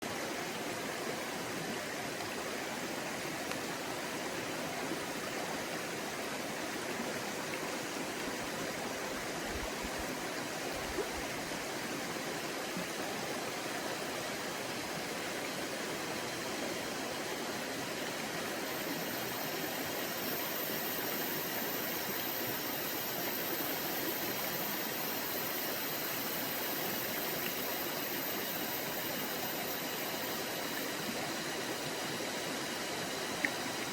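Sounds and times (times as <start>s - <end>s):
stream flowing: 0.0s - 33.9s.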